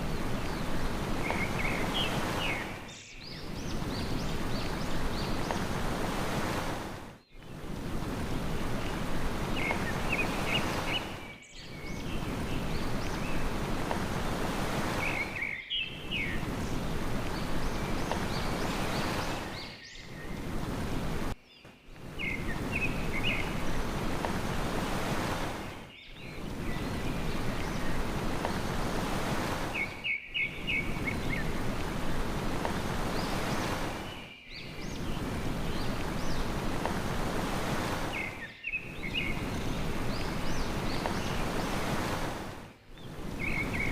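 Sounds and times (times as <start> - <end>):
sea waves washing: 0.0 - 43.9
small birds chirping: 0.0 - 43.9.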